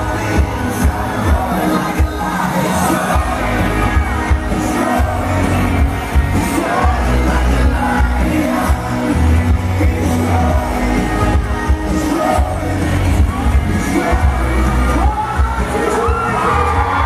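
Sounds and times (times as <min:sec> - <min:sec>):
crowd singing along: 0:00.0 - 0:17.0
live band music over a pa: 0:00.0 - 0:17.0.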